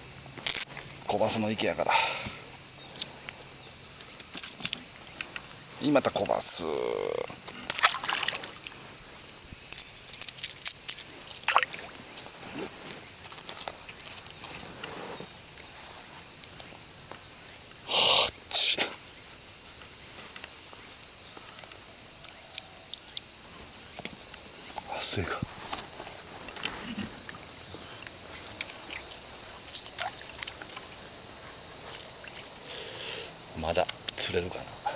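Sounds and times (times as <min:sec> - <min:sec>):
insect chorus: 0:00.0 - 0:34.9.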